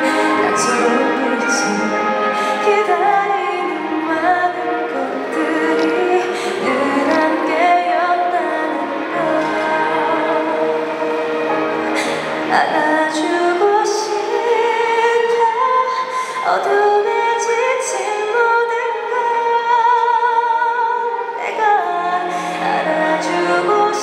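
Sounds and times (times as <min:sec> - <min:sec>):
symphony orchestra: 0:00.0 - 0:24.0
woman singing with vibrato: 0:00.0 - 0:24.0.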